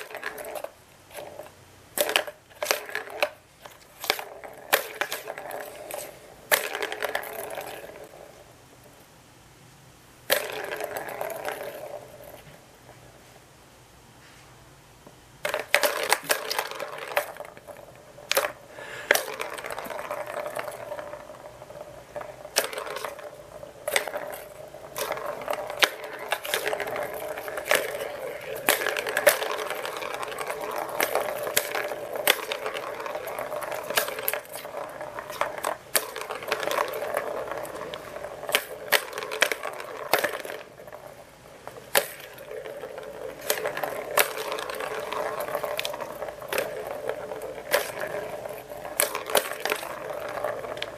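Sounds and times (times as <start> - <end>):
balls clicking against plastic: 0.0 - 8.4, 10.2 - 12.6, 15.4 - 50.9
plastic balls rolling in toy track: 0.0 - 8.4, 10.2 - 12.6, 15.4 - 50.9.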